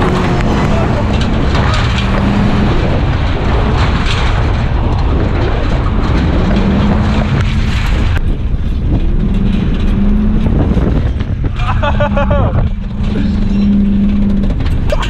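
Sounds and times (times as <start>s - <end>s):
road noise: 0.0s - 15.0s
vehicle engine running hard: 0.0s - 15.0s.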